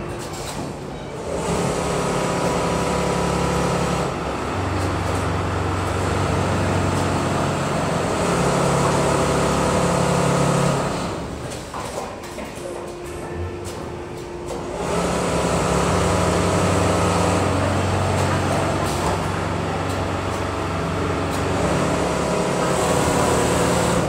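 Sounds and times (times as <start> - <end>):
factory background hum: 0.0 - 24.0
sewing machine running: 1.1 - 11.4, 14.4 - 24.0.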